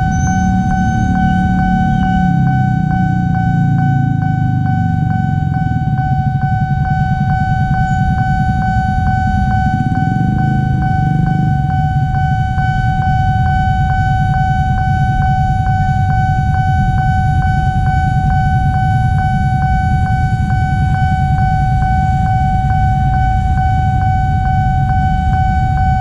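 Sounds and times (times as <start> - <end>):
level crossing warning bell: 0.0 - 26.0
motorcycle and car engines passing: 0.0 - 26.0.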